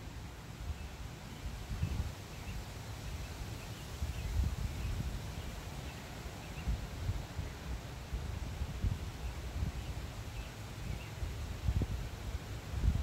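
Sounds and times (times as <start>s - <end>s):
leaves rustling in wind: 0.0s - 13.0s
wind buffeting microphone: 0.7s - 5.6s, 6.4s - 13.0s.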